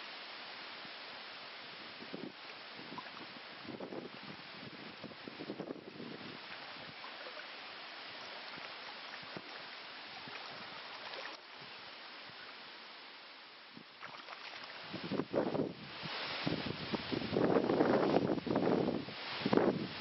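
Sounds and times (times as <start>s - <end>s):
stream over gravel: 0.0s - 20.0s.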